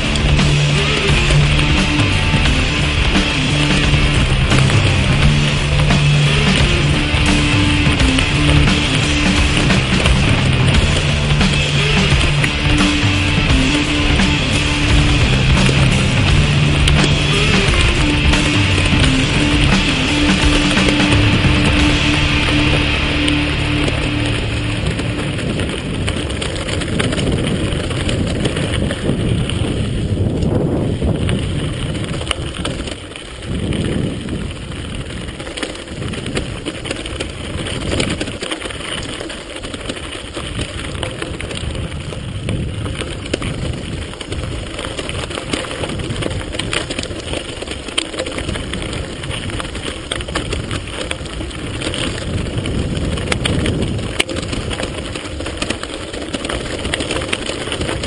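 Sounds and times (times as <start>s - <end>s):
bike rattling clicks and knocks: 0.0s - 58.0s
bike tyres rumbling on gravel: 0.0s - 58.0s
wind buffeting microphone: 0.0s - 58.0s.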